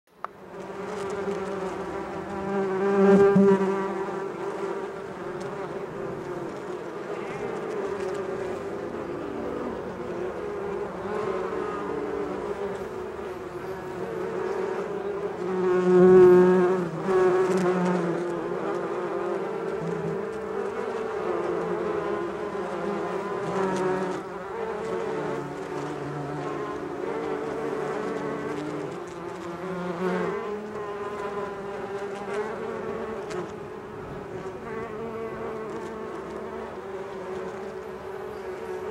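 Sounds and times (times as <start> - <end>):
swarm of bees buzzing: 0.2 - 38.9.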